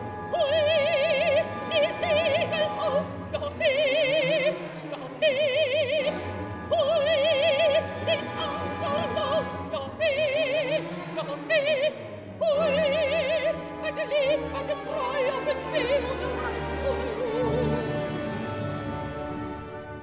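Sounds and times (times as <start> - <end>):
orchestral accompaniment: 0.0 - 20.0
operatic soprano singing: 0.1 - 19.2.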